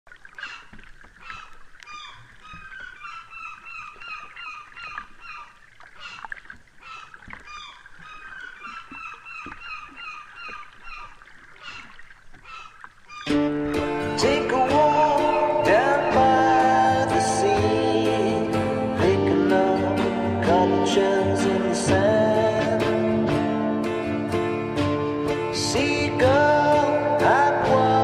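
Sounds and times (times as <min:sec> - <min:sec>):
gulls calling: 0:00.1 - 0:23.3.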